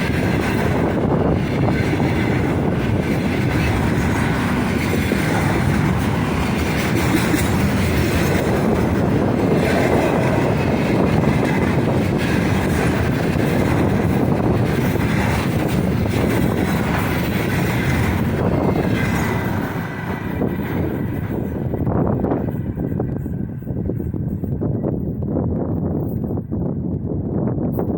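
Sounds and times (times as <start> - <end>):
freight train wheels clattering: 0.0 - 26.6.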